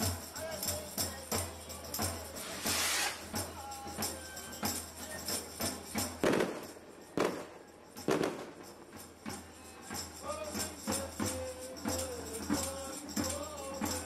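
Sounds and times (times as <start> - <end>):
sharp percussion strokes: 0.0 - 14.0
tambourine jingling: 0.0 - 14.0.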